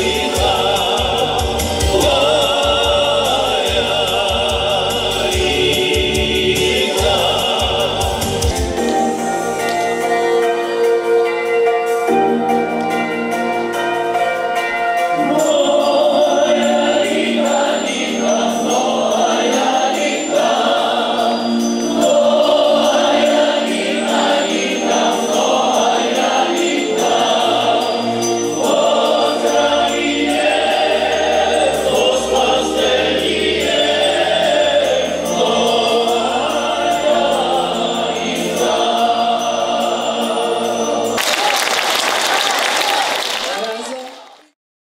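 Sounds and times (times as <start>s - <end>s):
choir singing: 0.0s - 12.4s, 15.0s - 43.5s
instrumental accompaniment: 0.0s - 44.5s.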